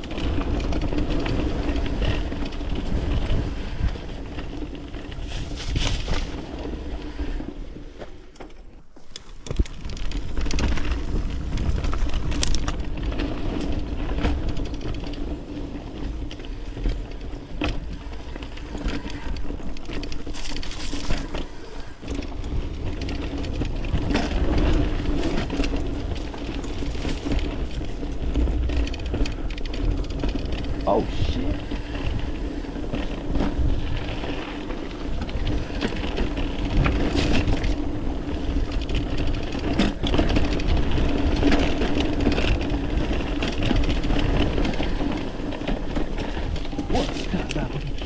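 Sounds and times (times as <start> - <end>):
bike clattering and rattling: 0.0 - 48.0
tyres rolling over rough ground: 0.0 - 48.0.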